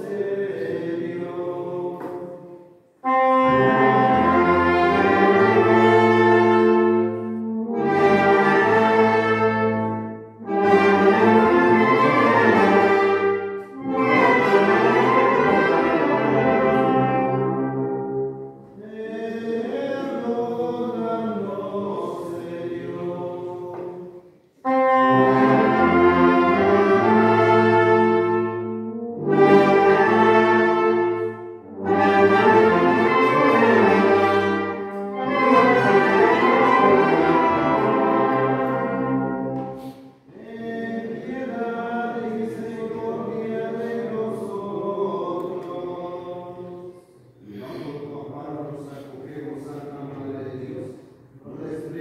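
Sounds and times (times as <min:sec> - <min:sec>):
brass band playing held chords: 0:00.0 - 0:45.0.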